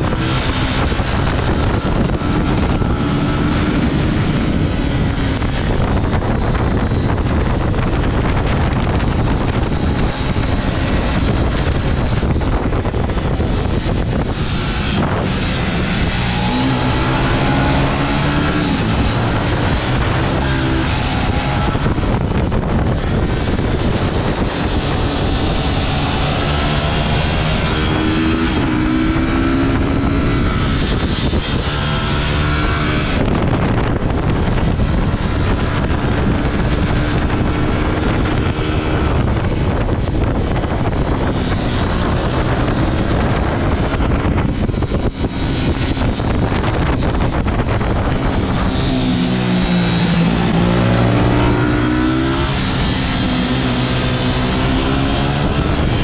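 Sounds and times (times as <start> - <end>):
motorcycle engine revving: 0.0 - 56.0
wind rush on microphone: 0.0 - 56.0.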